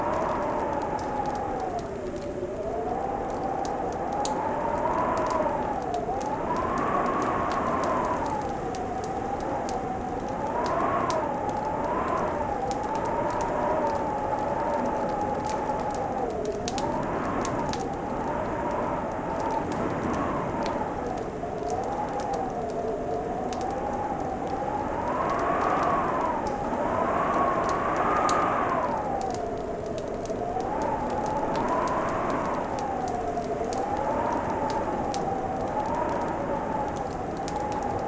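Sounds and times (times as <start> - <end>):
wind-like whistle: 0.0 - 38.0
wood fire crackling and popping: 0.0 - 38.0.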